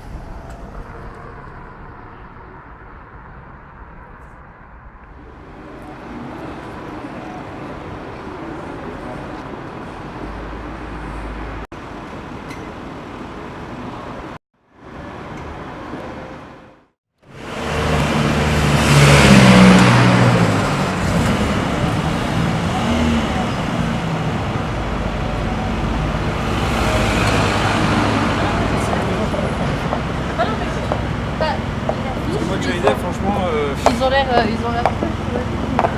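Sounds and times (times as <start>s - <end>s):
car engine: 0.0s - 12.4s, 14.8s - 35.9s
street traffic: 0.0s - 35.9s.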